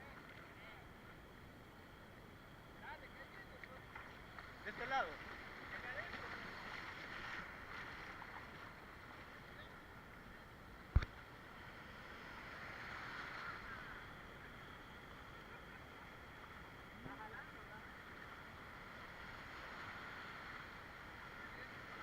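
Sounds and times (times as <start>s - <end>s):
hiss of water and wind: 0.0s - 22.0s.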